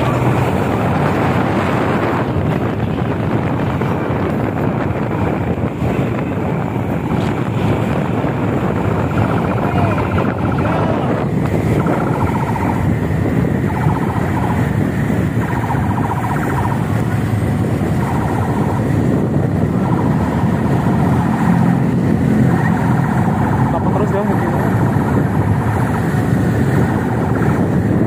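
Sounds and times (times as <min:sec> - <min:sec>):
road noise of moving vehicles: 0:00.0 - 0:28.0
wind rushing over microphone: 0:00.0 - 0:28.0.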